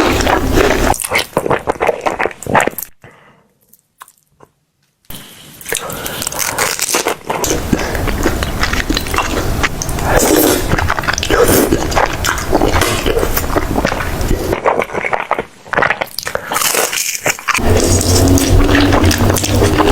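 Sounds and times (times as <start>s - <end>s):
chewing and crunching: 0.0s - 3.0s, 5.6s - 19.9s
wet mouth noises: 0.0s - 19.9s.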